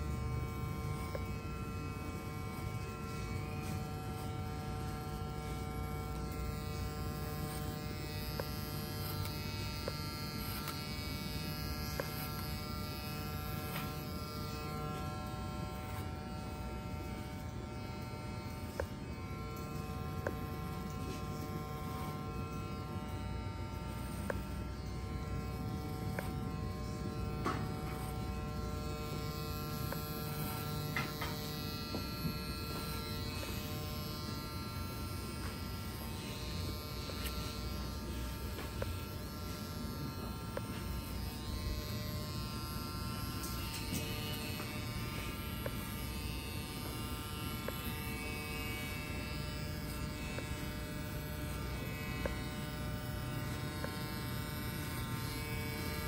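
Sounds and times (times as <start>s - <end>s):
electric hair clippers buzzing: 0.0s - 56.0s.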